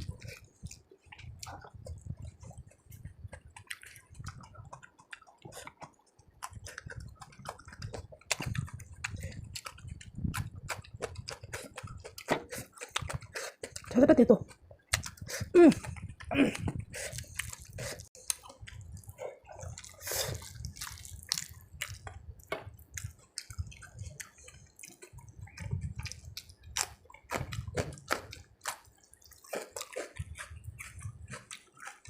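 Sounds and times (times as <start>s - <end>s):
wet chewing and smacking: 0.0s - 32.0s.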